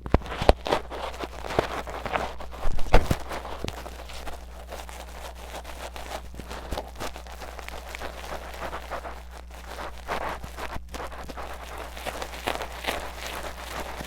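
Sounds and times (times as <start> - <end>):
tweezers scraping in ear: 0.0 - 14.0.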